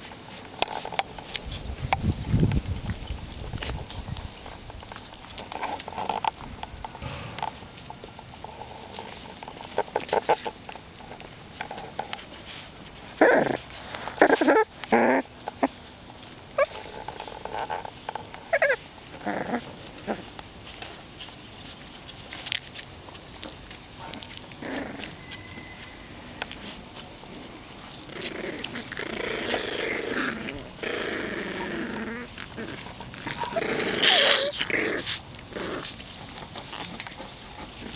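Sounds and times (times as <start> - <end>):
puppies whimpering and snuffling: 0.0 - 37.9.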